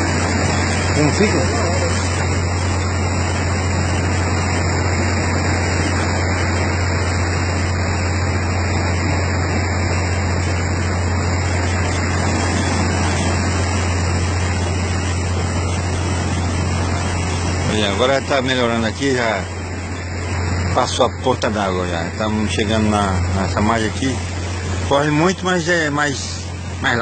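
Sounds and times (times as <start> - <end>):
boat engine droning: 0.0 - 27.0
river water rushing: 0.0 - 27.0.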